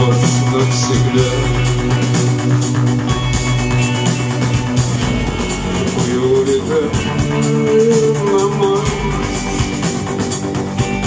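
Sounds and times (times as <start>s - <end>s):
electric guitar melody: 0.0s - 11.0s
rock band playing live: 0.0s - 11.0s.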